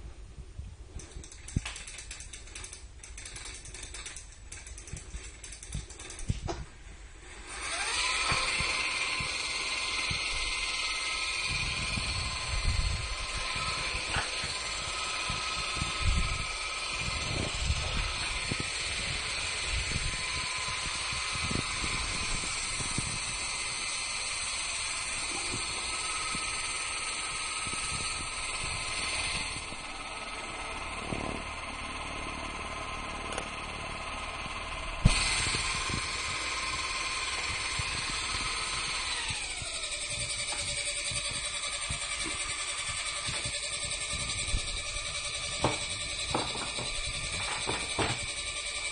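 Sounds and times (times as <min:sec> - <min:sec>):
electric helicopter motor whine: 0:01.1 - 0:48.9.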